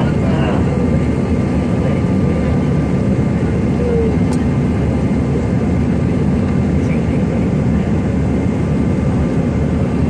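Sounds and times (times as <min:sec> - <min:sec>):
airliner cabin engine roar: 0:00.0 - 0:10.0.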